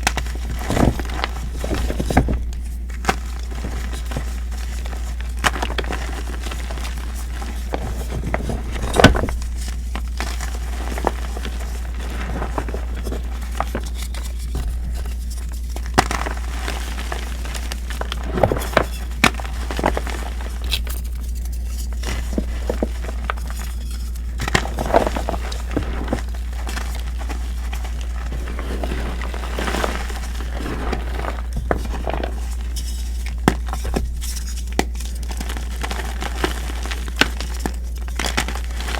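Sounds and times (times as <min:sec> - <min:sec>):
chalk blocks crunching by hand: 0:00.0 - 0:38.9
steady low hum: 0:00.0 - 0:38.9.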